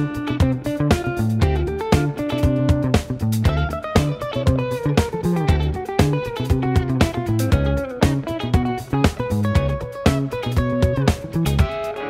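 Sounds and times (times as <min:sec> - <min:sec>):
guitar instrumental music: 0:00.0 - 0:12.0.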